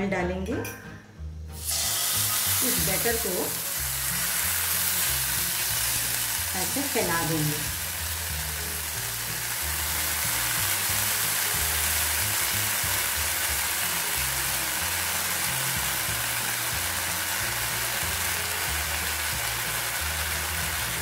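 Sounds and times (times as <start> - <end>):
background music bass notes: 0.0 - 21.0
batter sizzling in a pan: 1.6 - 21.0.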